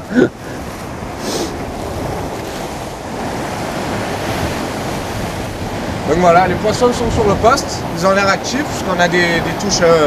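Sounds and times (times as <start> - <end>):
surf breaking against rocks: 0.0 - 10.0
wind buffeting microphone: 0.0 - 10.0.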